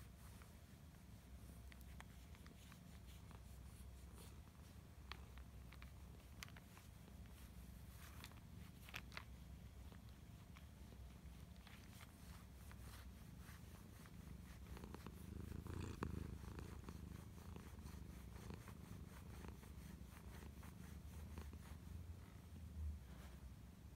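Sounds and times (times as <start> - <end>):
cat purring: 0.0 - 23.2
rustle: 0.0 - 23.5.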